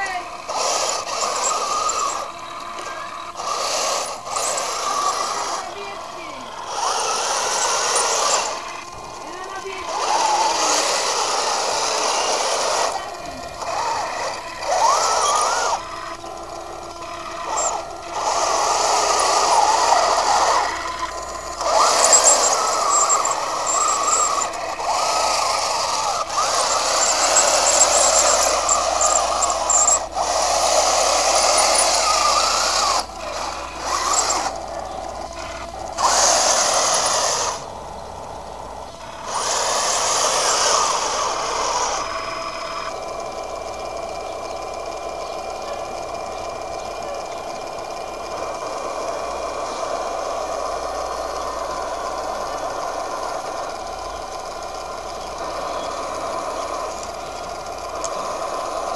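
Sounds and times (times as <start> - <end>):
electric motors whining: 0.0 - 58.9.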